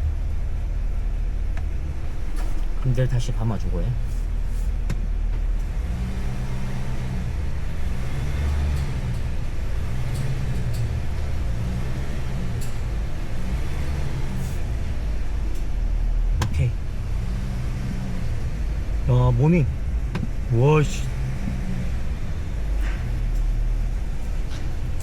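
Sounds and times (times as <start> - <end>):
suv engine pulling at low revs: 0.0 - 25.0.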